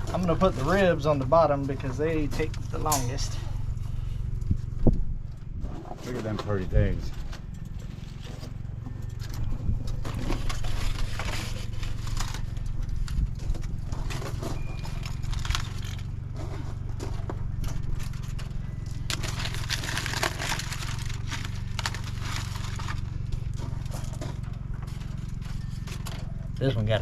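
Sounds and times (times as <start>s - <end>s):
metal rack scraping and rustling: 0.0s - 5.0s, 5.6s - 26.6s
steady low hum: 0.0s - 27.0s.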